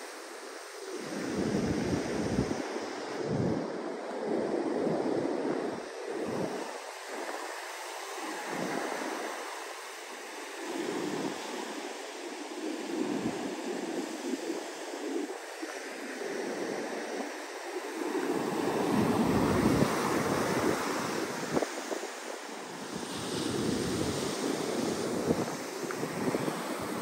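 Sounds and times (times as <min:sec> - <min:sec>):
ocean surf breaking on beach: 0:00.0 - 0:27.0
wind rumbling on microphone: 0:00.4 - 0:27.0.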